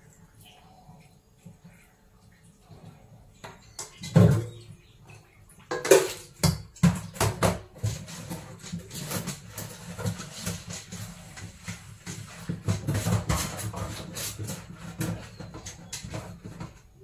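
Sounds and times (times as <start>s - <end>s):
metal bowls clattering in a sink: 2.8s - 17.0s.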